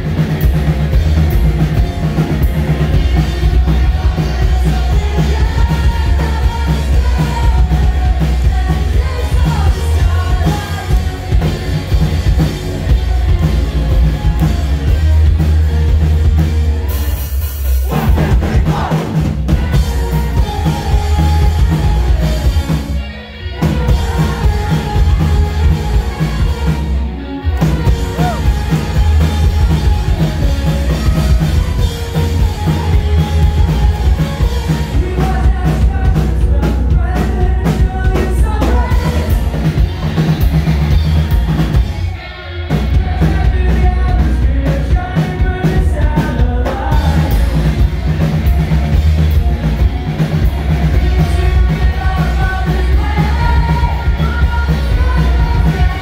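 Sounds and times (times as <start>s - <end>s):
rock band playing live: 0.0s - 56.0s
person singing: 1.3s - 17.1s, 17.8s - 48.2s, 50.4s - 56.0s.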